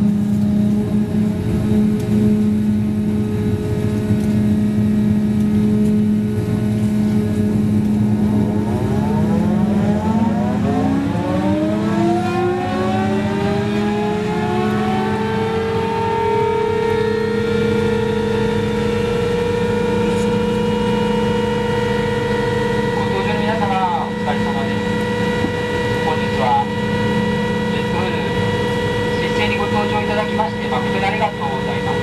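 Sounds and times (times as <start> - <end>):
gas turbine starting up: 0.0 - 32.0.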